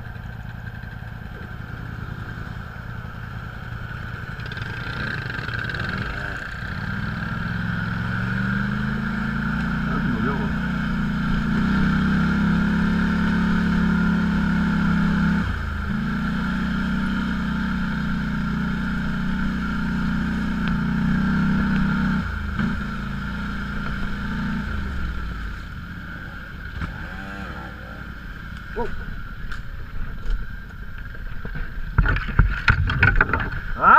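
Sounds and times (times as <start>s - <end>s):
off-road vehicle engine running: 0.0s - 33.9s.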